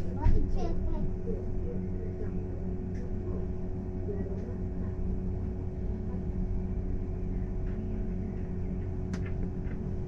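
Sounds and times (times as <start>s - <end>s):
bus engine rumble: 0.0s - 10.0s
constant hum: 0.0s - 10.0s.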